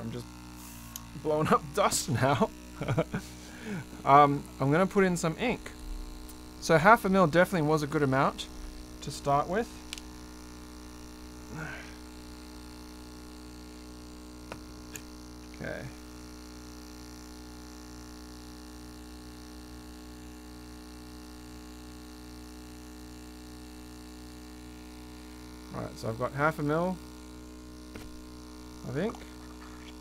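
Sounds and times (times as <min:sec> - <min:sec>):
airbrush compressor humming: 0:00.0 - 0:30.0.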